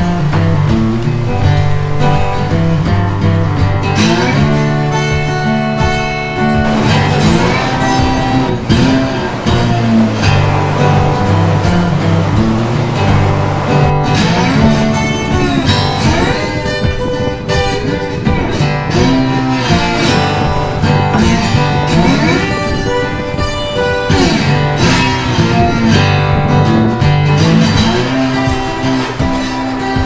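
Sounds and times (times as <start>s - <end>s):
guitar-led background music: 0.0s - 30.0s.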